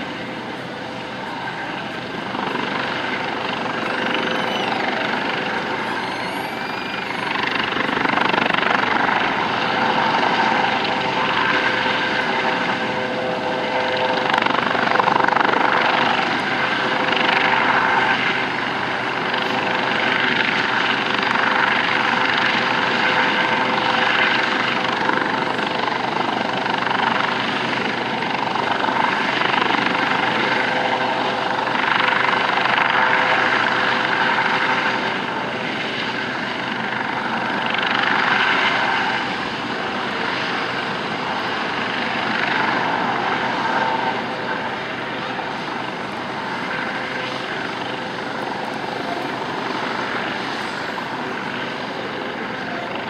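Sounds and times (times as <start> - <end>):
helicopter engine whine: 0.0 - 53.0
helicopter rotor noise: 0.0 - 53.0.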